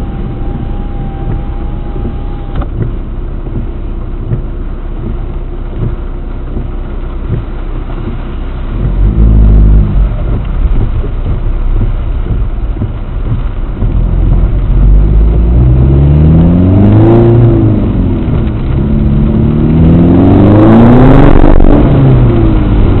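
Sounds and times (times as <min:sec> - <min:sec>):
car engine accelerating: 0:00.0 - 0:23.0
low rumble: 0:00.0 - 0:23.0.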